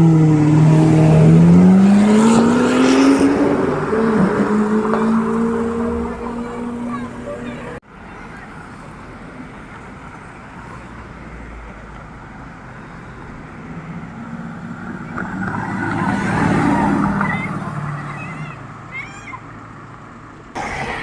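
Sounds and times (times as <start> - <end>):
car passing by: 0.0 - 7.8, 8.4 - 18.6, 20.6 - 21.0
street noise: 0.0 - 21.0.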